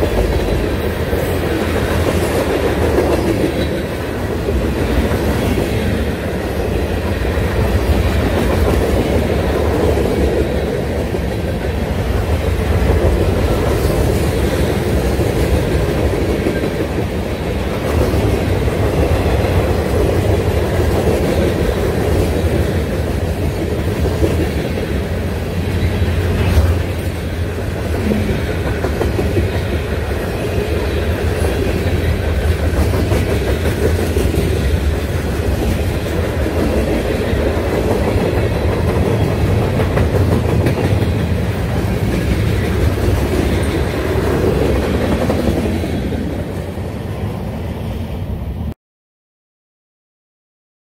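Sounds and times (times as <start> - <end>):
train wheels clacking on rails: 0.0 - 46.8.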